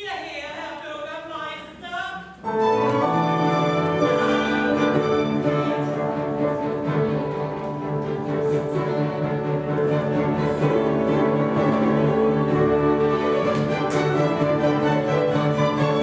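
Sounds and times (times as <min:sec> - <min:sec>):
orchestra playing opera music: 0:02.4 - 0:16.0.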